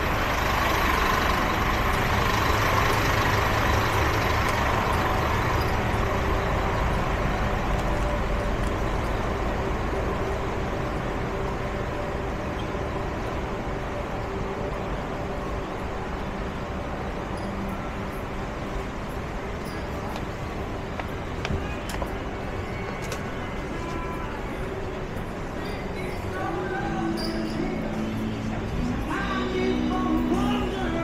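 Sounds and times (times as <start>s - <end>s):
heavy vehicle engine rumbling: 0.0s - 31.0s.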